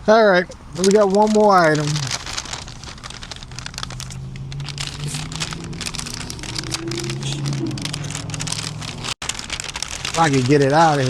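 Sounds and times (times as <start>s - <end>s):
paper bag rustling and crinkling: 0.5s - 11.0s.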